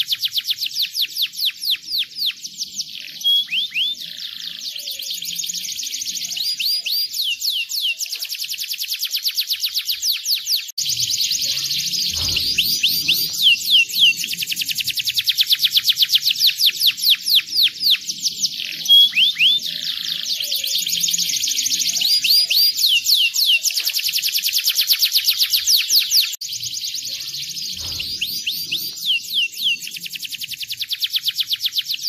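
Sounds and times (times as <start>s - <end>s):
canary singing trills: 0.0s - 32.0s.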